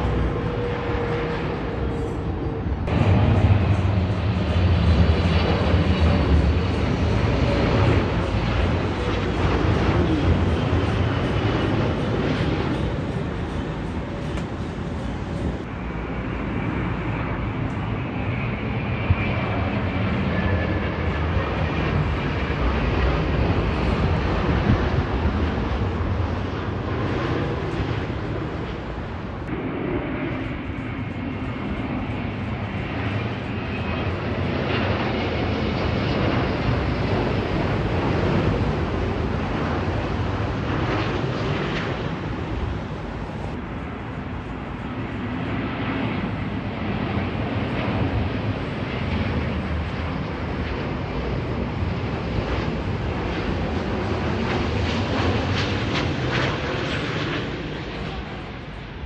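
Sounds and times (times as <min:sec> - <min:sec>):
faint high jet whine: 0:00.0 - 0:59.0
jet airliner engine rumble: 0:00.0 - 0:59.0.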